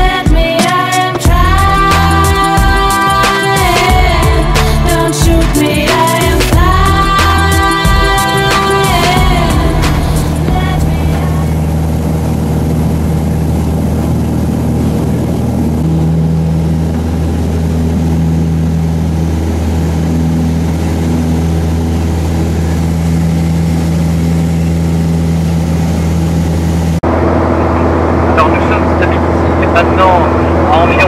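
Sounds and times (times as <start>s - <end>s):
plane engine drone in cabin: 1.2s - 31.0s.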